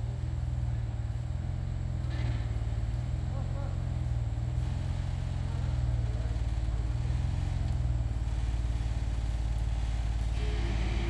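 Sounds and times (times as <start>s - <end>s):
engine rumbling at low revs: 0.0s - 11.0s.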